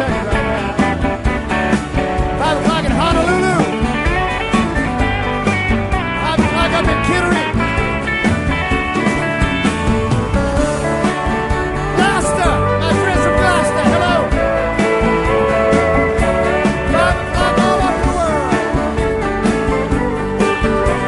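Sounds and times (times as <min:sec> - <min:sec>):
bass: 0:00.0 - 0:21.0
guitar lead with bent notes: 0:00.0 - 0:21.0
steady drum beat: 0:00.0 - 0:21.0.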